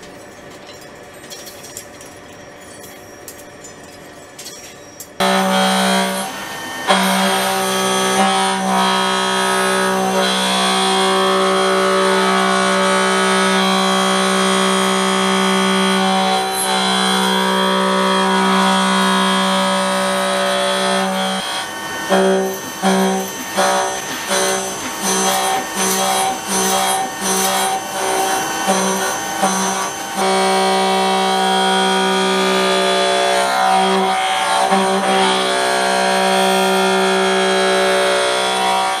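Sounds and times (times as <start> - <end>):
milling machine cutting steel: 0.0 - 39.0.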